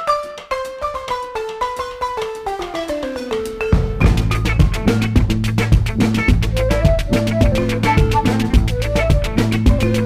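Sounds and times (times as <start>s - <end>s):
upbeat latin-style music: 0.0s - 10.0s.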